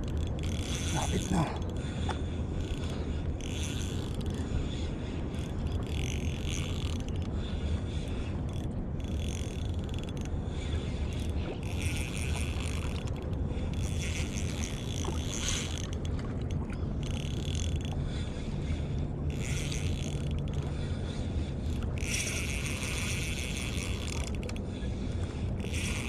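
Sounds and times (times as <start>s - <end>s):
fishing reel being cranked: 0.0s - 20.9s, 21.6s - 24.6s, 25.5s - 26.0s
steady low rumble: 0.0s - 26.0s.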